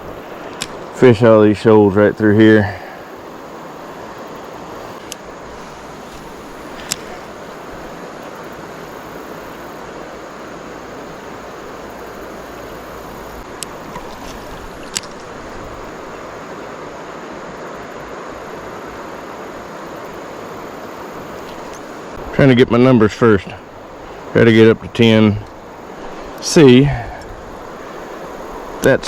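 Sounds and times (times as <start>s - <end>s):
river water rushing over shoals: 0.0s - 29.0s.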